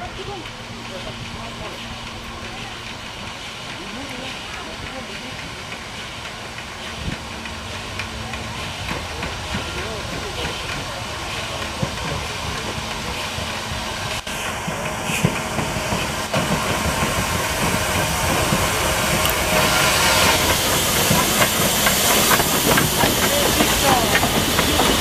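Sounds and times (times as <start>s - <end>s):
steam hissing: 0.0s - 25.0s
steam locomotive rolling: 0.0s - 25.0s.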